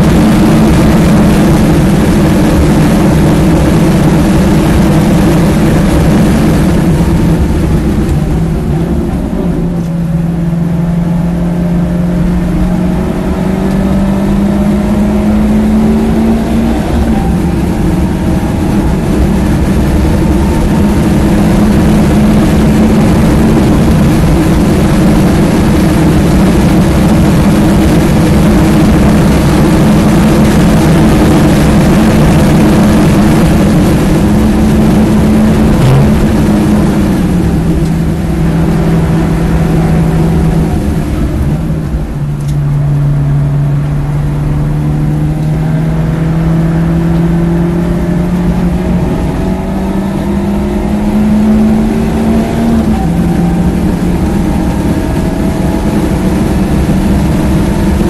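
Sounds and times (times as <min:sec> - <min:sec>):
car engine at high revs: 0:00.0 - 0:58.0
wind and tyre noise: 0:00.0 - 0:58.0.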